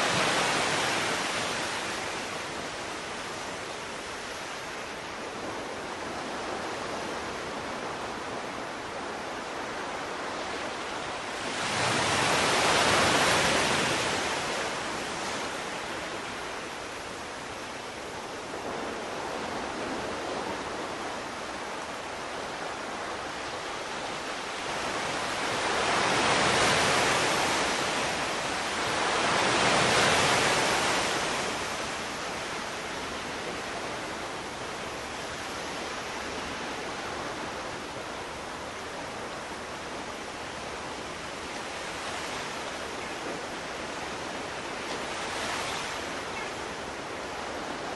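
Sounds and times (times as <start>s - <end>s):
sea waves surf: 0.0s - 47.9s.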